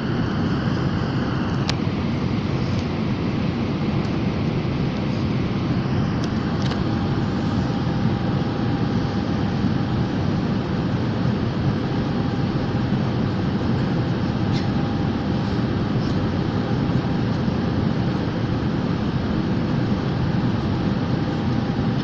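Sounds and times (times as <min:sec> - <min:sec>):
airplane cabin engine drone: 0:00.0 - 0:22.0
faint steady whine: 0:00.0 - 0:22.0.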